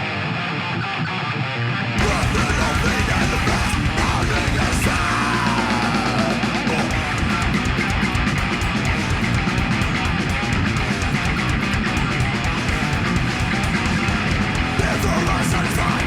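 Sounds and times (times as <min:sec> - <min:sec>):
live rock band playing: 0:00.0 - 0:16.0
rapid drum strokes: 0:02.0 - 0:16.0.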